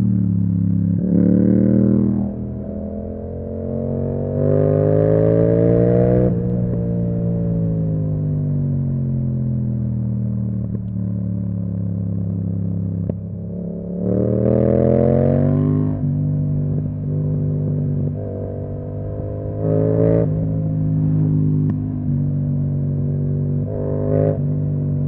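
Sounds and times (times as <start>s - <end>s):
motorcycle engine revving: 0.0s - 8.4s, 12.1s - 25.0s.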